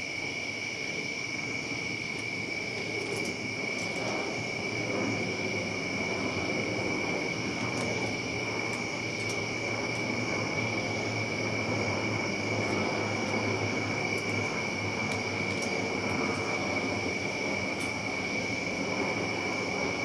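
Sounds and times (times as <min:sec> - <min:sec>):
insects trilling: 0:00.0 - 0:20.0
low steady hum: 0:00.0 - 0:20.0.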